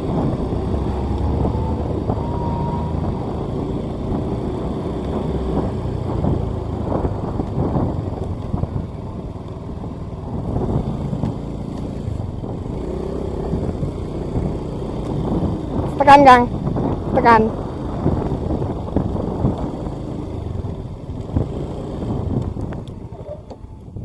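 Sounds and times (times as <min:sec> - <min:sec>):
road noise: 0:00.0 - 0:24.0
vehicle engine rumble: 0:00.0 - 0:24.0.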